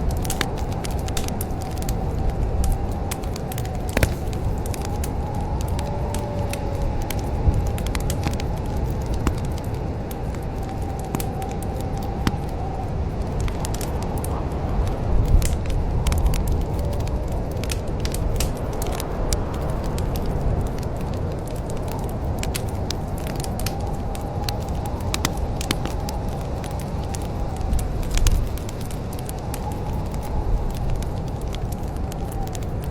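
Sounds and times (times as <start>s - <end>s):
low rush of flames: 0.0s - 32.9s
wood fire crackling: 0.0s - 32.9s.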